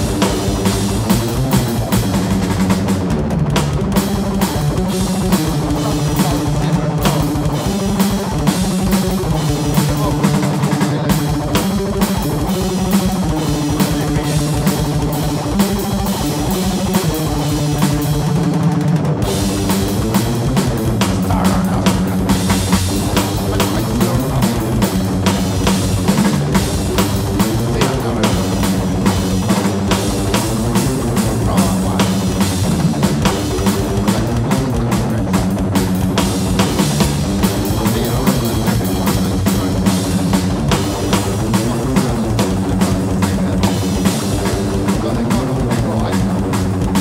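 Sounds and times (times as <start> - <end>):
distorted guitar riffs: 0.0 - 47.0
fast drumming on drum kit: 0.0 - 47.0.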